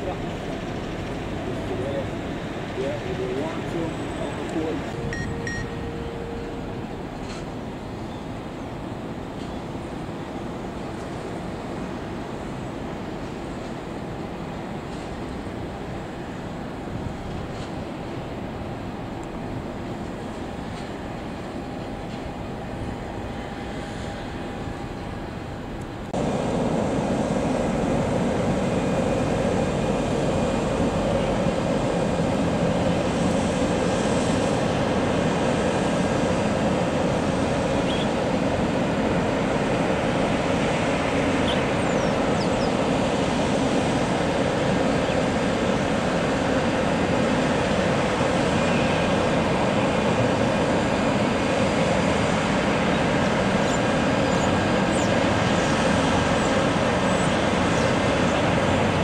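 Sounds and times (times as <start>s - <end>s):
jet engines at taxi thrust: 0.0s - 59.0s.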